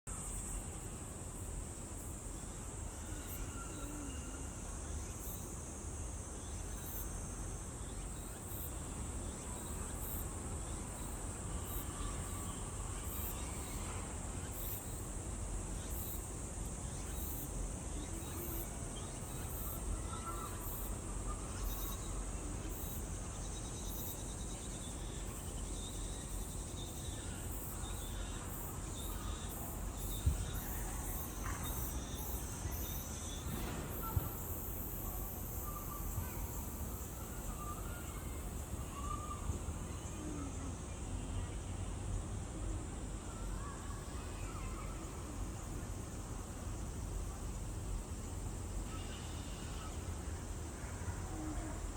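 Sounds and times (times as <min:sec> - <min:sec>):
insects chirring: 0:00.1 - 0:51.9.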